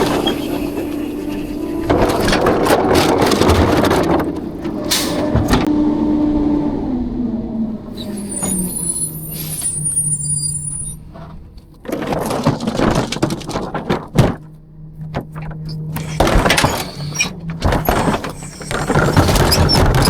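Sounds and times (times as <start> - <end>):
dumpsters and trash clattering: 0.0 - 6.2, 7.9 - 20.0
garbage truck humming: 0.0 - 20.0.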